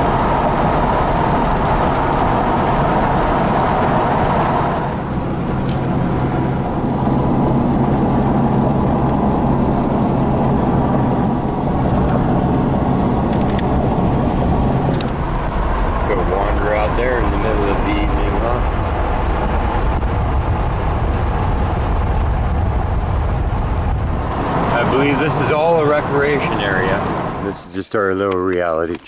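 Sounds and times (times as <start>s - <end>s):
car engine hum: 0.0s - 27.6s
road rumble and hiss: 0.0s - 29.0s.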